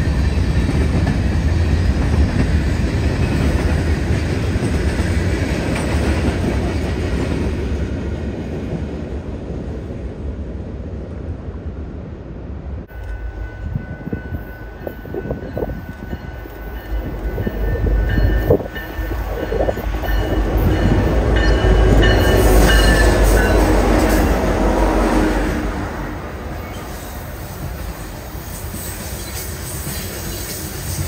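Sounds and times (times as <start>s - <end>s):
train wheels rolling on rails: 0.0s - 11.8s, 12.6s - 31.0s.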